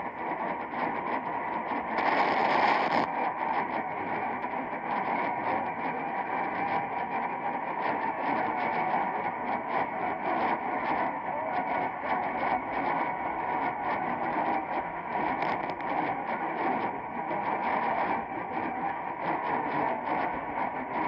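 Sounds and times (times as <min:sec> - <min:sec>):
faint radio station: 0:00.0 - 0:21.0
radio static crackling: 0:00.0 - 0:21.0.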